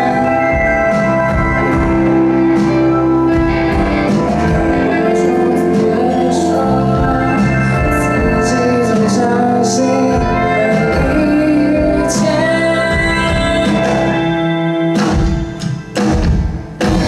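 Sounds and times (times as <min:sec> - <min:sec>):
guitar: 0:00.0 - 0:17.0
live band playing: 0:00.0 - 0:17.0.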